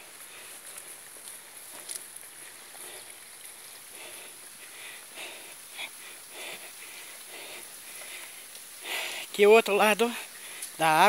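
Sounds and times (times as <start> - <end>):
footsteps crunching on path: 0.0 - 11.0
stream running water: 0.0 - 11.0.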